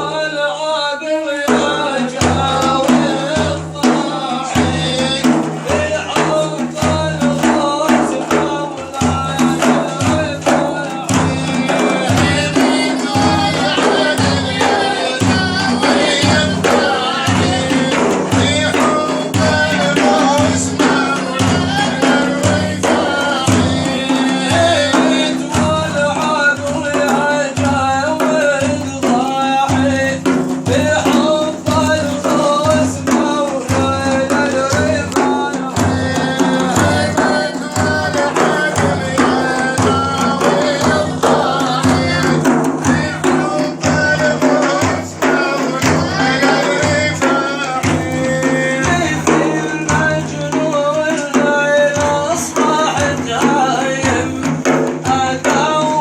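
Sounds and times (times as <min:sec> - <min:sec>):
man chanting devotional song: 0:00.0 - 0:56.0
low percussion beat: 0:01.4 - 0:56.0.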